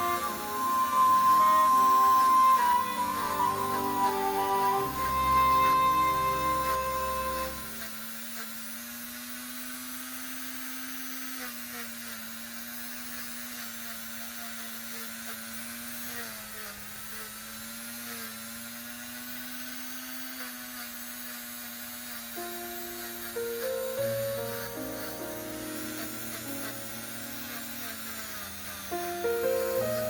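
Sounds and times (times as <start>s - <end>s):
electric motor whirring: 0.0s - 30.0s.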